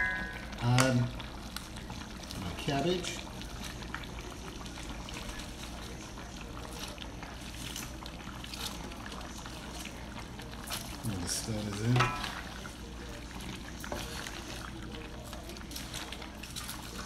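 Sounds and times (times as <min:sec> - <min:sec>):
broth bubbling in a pot: 0:00.0 - 0:17.0.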